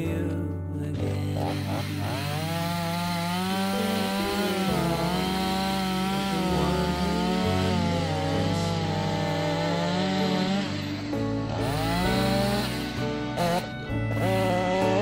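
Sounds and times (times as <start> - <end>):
chainsaw cutting log: 1.0 - 15.0.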